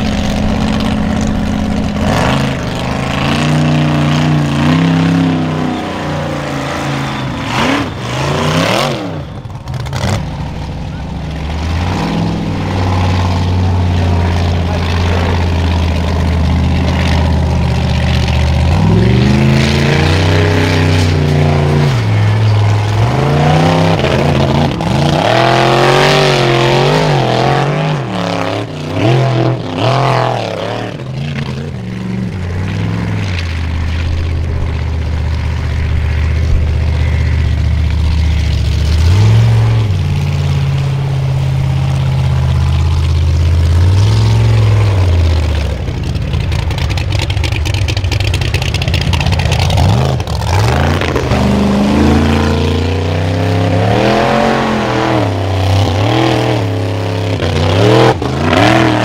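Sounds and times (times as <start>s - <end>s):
buggy engine revving: 0.0s - 59.0s.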